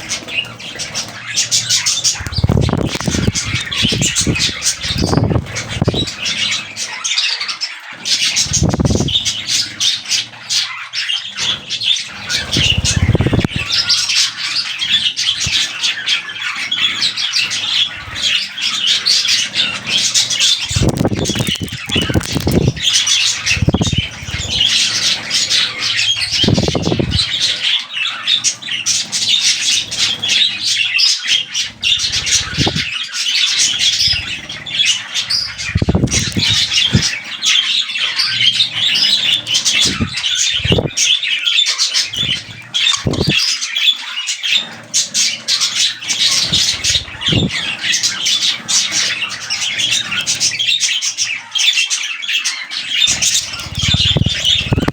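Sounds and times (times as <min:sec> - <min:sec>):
wing flapping: 0:00.0 - 0:06.9, 0:08.0 - 0:10.7, 0:11.3 - 0:41.2, 0:41.8 - 0:43.5, 0:44.6 - 0:50.5, 0:53.1 - 0:54.9
budgerigars chattering and warbling: 0:00.0 - 0:54.9.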